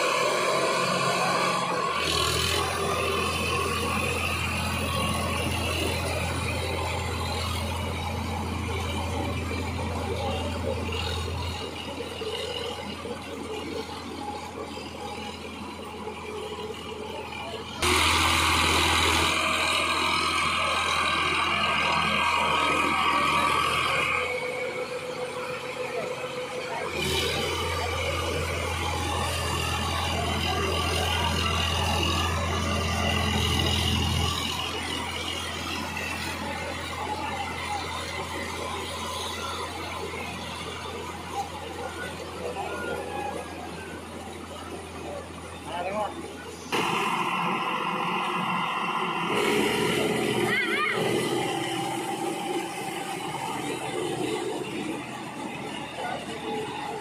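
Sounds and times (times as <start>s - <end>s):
rotavator churning through mud: 0.0s - 11.6s, 17.8s - 41.7s, 46.7s - 57.0s
tractor diesel engine running: 0.0s - 57.0s.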